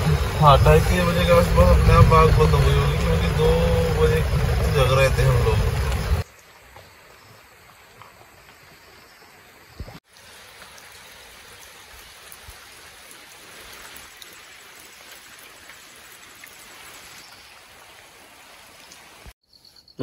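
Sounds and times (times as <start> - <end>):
rain falling on a tent: 0.0 - 8.7, 10.0 - 19.4.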